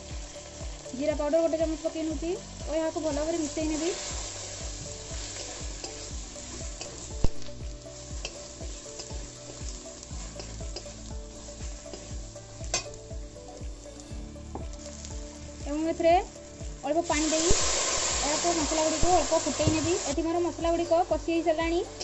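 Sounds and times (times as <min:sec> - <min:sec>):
sizzle of frying in oil: 0:00.0 - 0:22.0.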